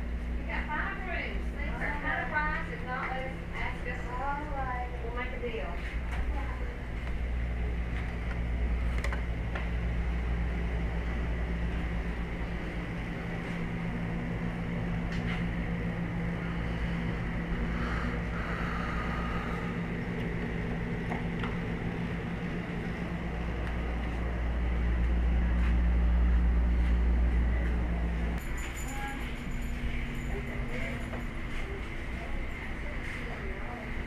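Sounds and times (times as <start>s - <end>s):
vehicle mechanical hum: 0.0s - 34.0s.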